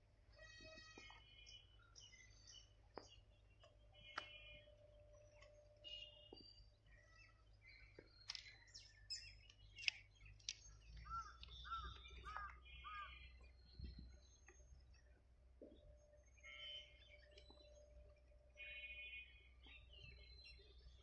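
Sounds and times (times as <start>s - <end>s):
faint bird chirps and calls: 0.2s - 21.0s.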